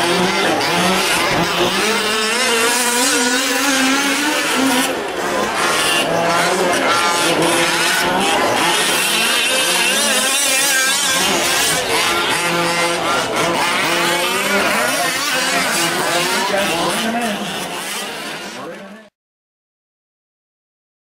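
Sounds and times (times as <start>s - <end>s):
small two-stroke engines buzzing: 0.0s - 19.1s.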